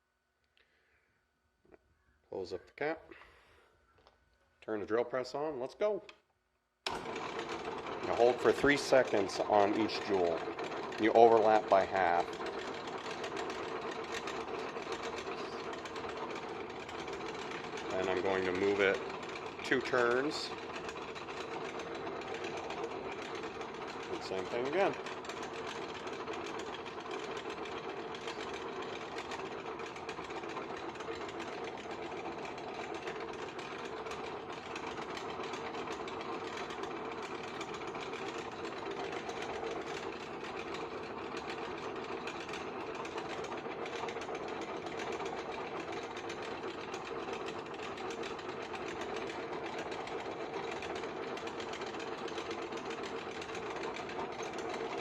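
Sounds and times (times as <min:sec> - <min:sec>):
drill press motor hum: 0:06.8 - 0:55.0.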